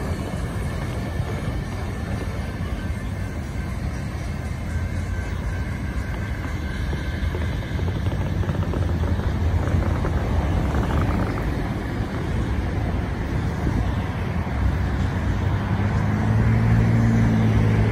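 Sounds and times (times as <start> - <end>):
freight train rumbling: 0.0 - 17.9
low engine hum: 0.0 - 17.9.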